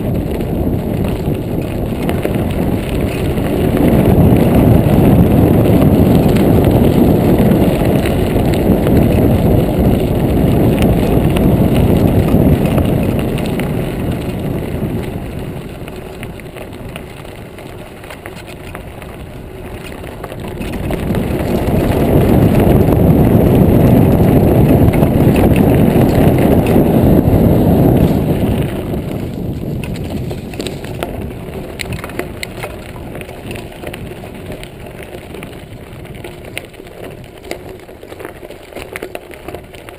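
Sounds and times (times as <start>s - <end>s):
bike clicks and rattles: 0.0s - 39.9s
tyres rolling on gravel: 0.0s - 39.9s
wind buffeting microphone: 0.0s - 39.9s.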